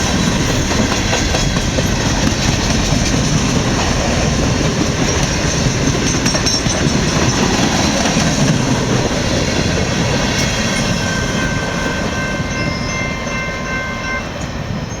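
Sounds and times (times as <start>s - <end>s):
freight train cars rolling: 0.0s - 15.0s.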